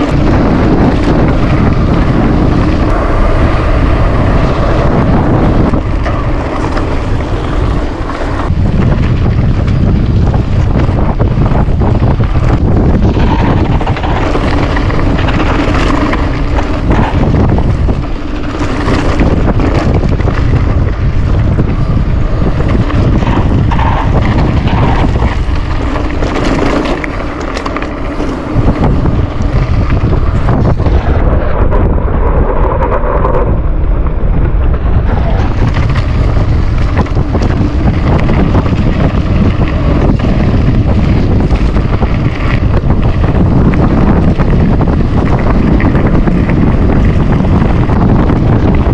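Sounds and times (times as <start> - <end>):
knocks and rattles from road: 0.0 - 48.9
wind buffeting microphone: 0.0 - 48.9.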